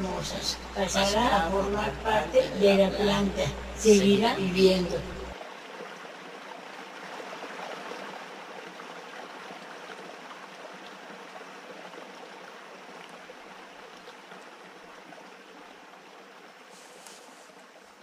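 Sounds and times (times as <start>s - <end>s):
running water: 0.0s - 18.0s.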